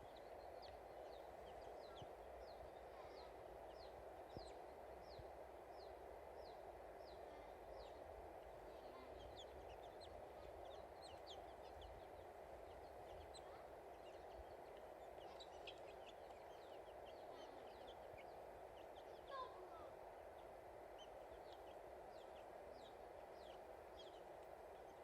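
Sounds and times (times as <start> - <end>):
faint small birds chirping: 0.0 - 25.0
low background hum: 0.0 - 25.0.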